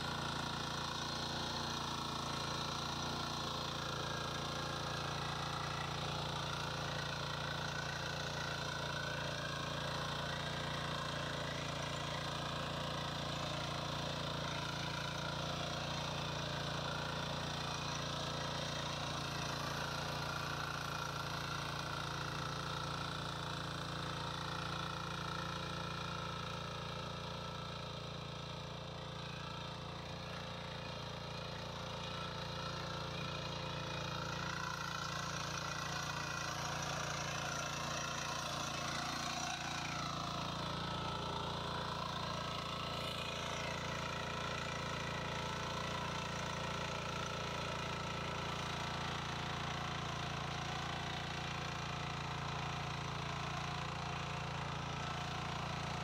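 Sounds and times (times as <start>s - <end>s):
power weeder engine running: 0.0s - 56.0s.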